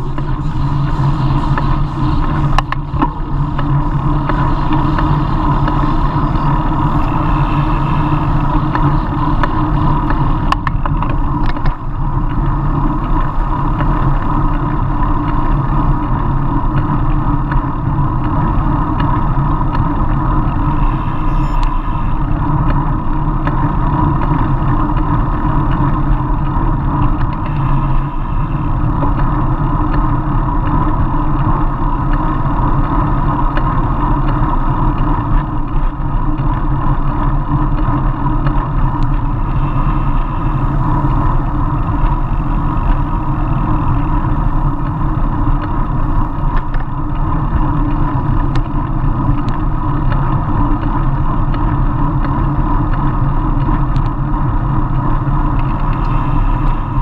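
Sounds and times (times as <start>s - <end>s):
bicycle road noise: 0.0s - 57.0s
wind rushing over microphone: 0.0s - 57.0s.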